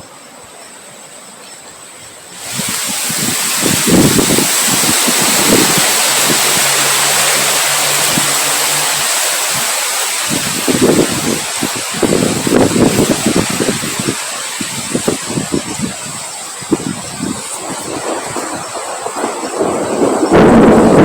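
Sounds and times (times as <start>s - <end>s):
wind gusts buffeting microphone: 2.1s - 21.0s
strong wind rushing: 2.4s - 21.0s.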